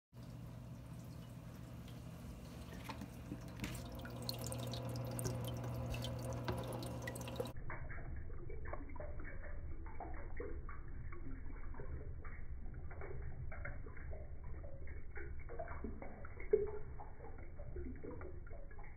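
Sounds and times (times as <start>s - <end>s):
water dripping and splashing: 0.1s - 18.9s
low hum: 0.2s - 18.9s.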